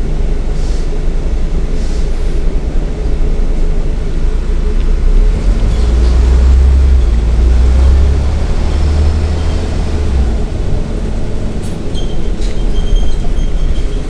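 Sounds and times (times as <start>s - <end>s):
bus diesel engine drone: 0.0s - 14.0s
road and body noise: 0.0s - 14.0s.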